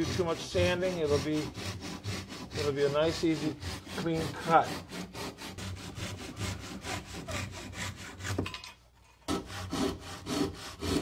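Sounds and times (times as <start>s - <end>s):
hand saw sawing wood: 0.0s - 11.0s.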